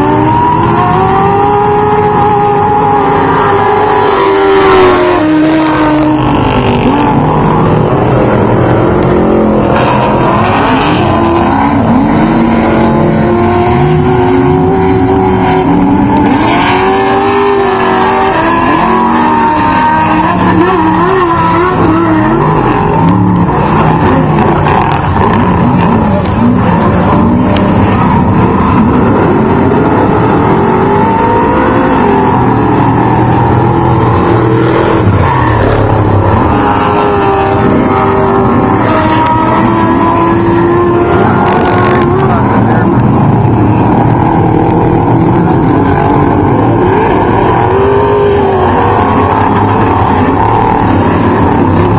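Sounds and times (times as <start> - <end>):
engines revving: 0.0 - 51.9.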